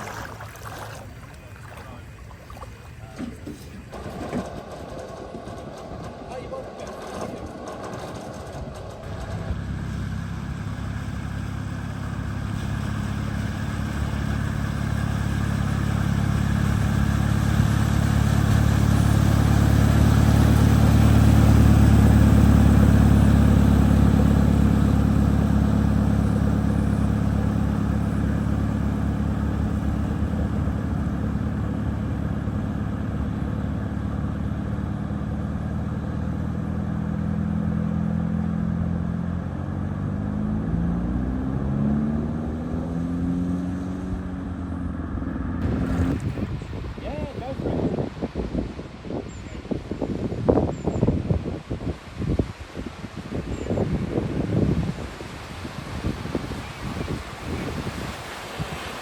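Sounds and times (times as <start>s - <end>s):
vehicle driving through water: 0.0s - 59.0s.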